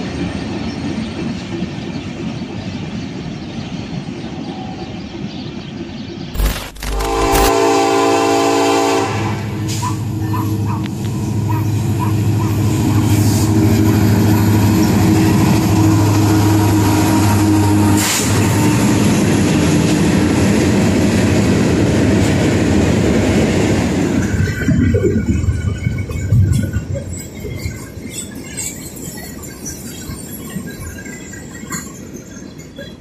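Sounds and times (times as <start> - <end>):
diesel locomotive engine drone: 0.0 - 33.0
empty freight cars rattling on rails: 0.0 - 33.0.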